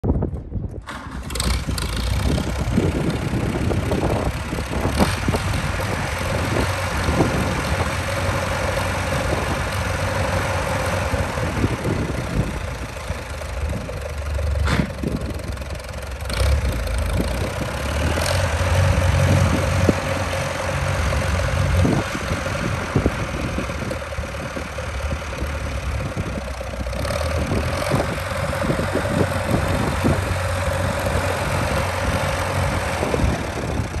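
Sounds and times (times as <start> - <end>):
tractor engine running: 0.1 - 34.0.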